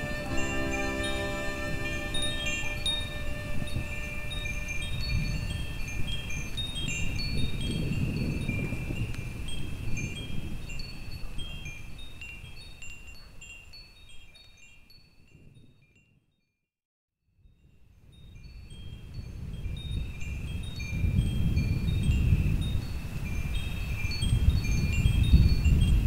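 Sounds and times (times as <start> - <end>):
wind chimes tinkling: 0.0 - 16.6, 17.4 - 26.0.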